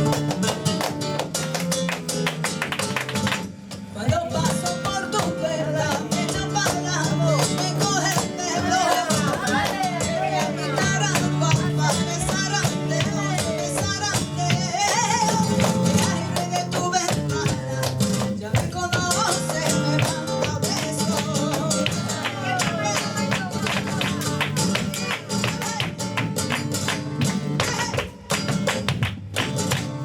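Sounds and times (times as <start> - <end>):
flamenco guitar: 0.0 - 30.0.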